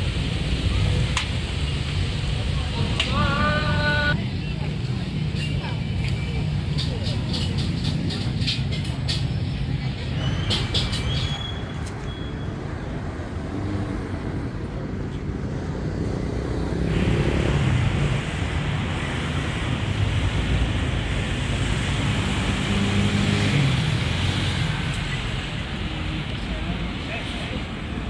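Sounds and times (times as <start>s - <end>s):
cars passing on busy street: 0.0s - 28.0s.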